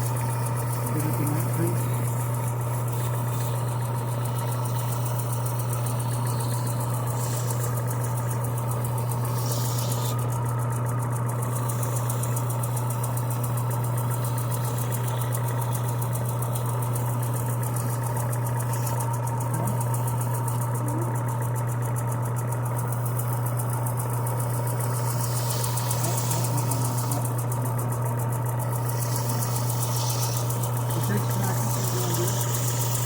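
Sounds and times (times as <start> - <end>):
metal handle being sanded: 0.0 - 20.7, 22.9 - 33.0
power tool motor humming: 0.0 - 33.0.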